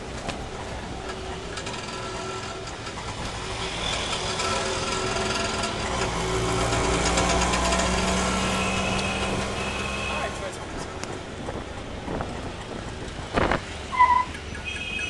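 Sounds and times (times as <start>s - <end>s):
engines running: 0.0s - 14.8s
brakes squealing: 0.0s - 15.0s.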